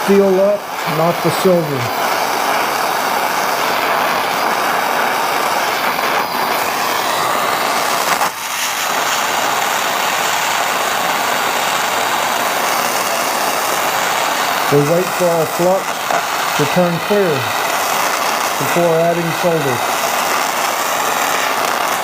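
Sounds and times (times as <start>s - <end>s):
torch flame blowing: 0.0s - 22.0s.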